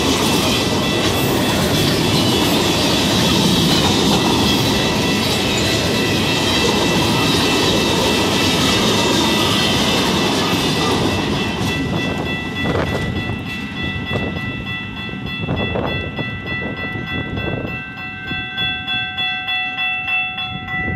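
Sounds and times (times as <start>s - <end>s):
freight train rumbling and clattering: 0.0s - 18.9s
railroad crossing bell ringing: 0.0s - 20.9s.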